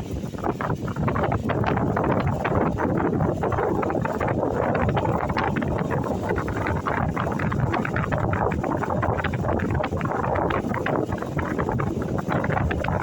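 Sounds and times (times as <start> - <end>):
constant crackling: 0.0 - 13.0
rumbling rushing noise: 0.0 - 13.0.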